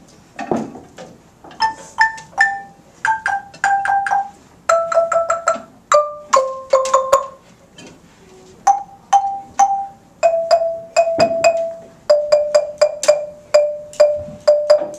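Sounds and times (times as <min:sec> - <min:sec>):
wooden xylophone melody: 0:01.5 - 0:07.5, 0:08.6 - 0:14.9.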